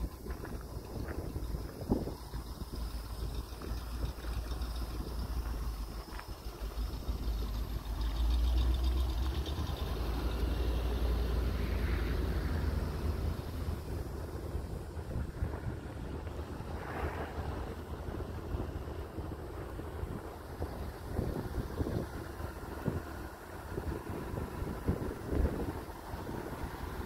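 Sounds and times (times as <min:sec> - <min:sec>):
wind buffeting microphone: 0:00.0 - 0:07.6, 0:10.8 - 0:27.0.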